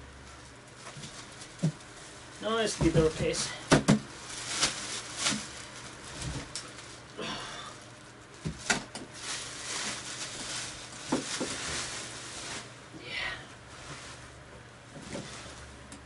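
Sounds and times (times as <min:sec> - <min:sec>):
plastic wrapping rustling: 0:00.1 - 0:12.9, 0:13.6 - 0:16.0.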